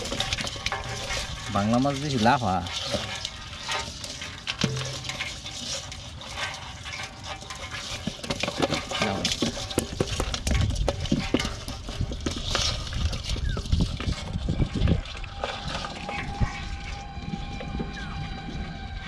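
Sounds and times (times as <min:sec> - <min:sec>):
fish and crabs clattering in basin: 0:00.0 - 0:19.0.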